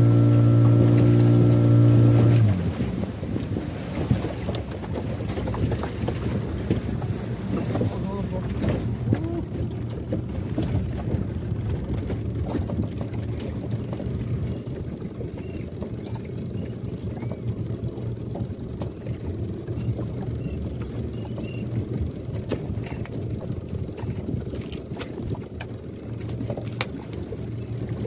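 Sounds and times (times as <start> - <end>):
outboard motor running: 0.0 - 28.0
water against hull: 0.0 - 28.0.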